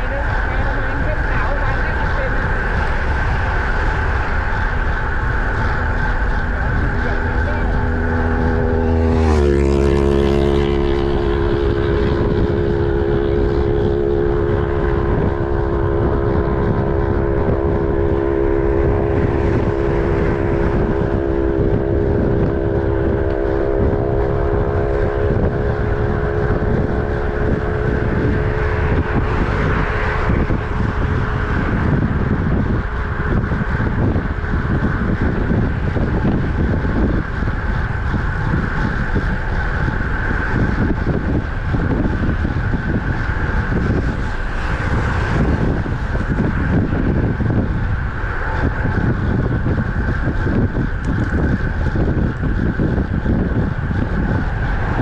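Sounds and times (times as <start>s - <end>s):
highway traffic noise: 0.0s - 55.0s
steady humming tone: 0.0s - 55.0s
vehicle passing by: 0.0s - 55.0s
wind rushing over microphone: 0.0s - 55.0s.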